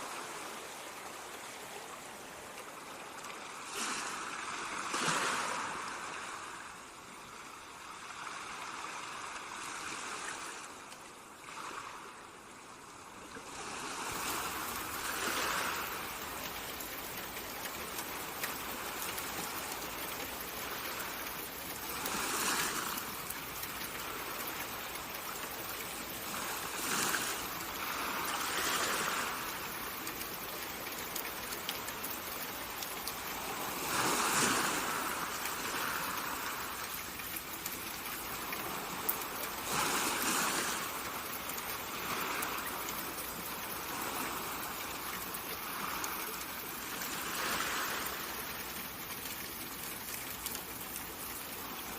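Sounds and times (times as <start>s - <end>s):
ocean waves: 0.0s - 51.9s.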